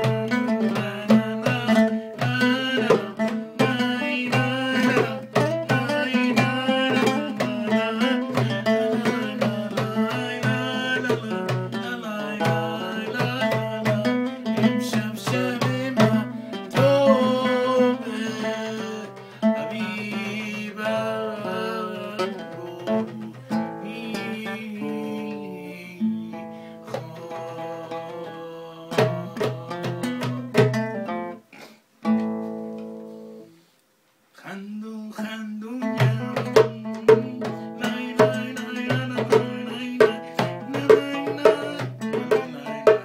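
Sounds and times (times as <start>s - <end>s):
man singing: 0.0s - 31.1s, 34.4s - 43.0s
guitar music: 0.0s - 31.4s, 32.0s - 33.6s, 35.8s - 43.0s.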